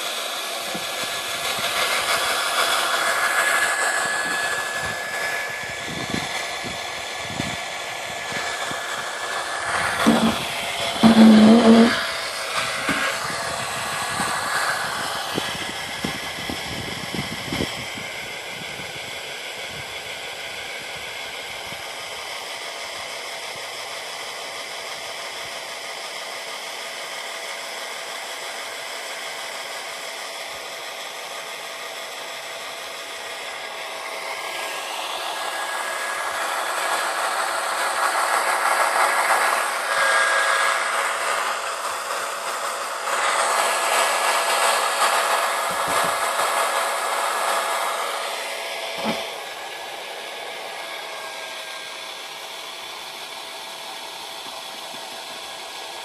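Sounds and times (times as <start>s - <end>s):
cordless drill motor whining: 0.0s - 56.0s.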